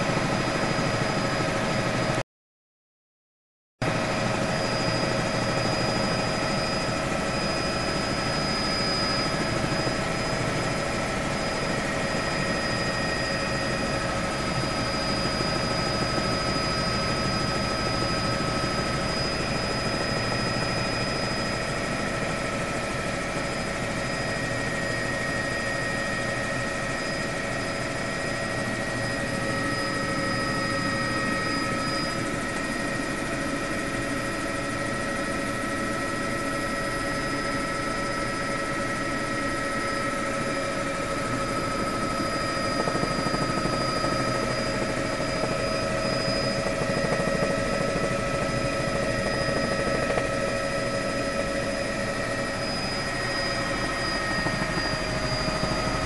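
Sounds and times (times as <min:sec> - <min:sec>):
helicopter rotor and engine rumble: 0:00.0 - 0:02.2, 0:03.8 - 0:56.0
high turbine whine: 0:00.0 - 0:02.2, 0:03.8 - 0:56.0.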